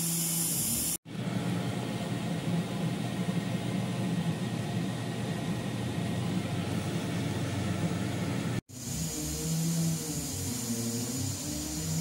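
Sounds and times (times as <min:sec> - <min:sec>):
machinery humming and hissing: 0:00.0 - 0:12.0.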